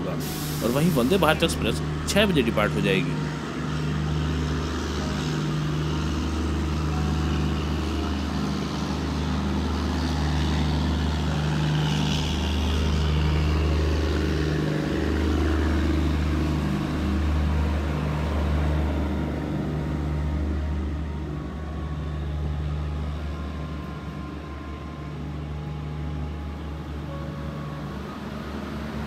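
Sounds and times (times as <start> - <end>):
train machinery humming: 0.0 - 29.0.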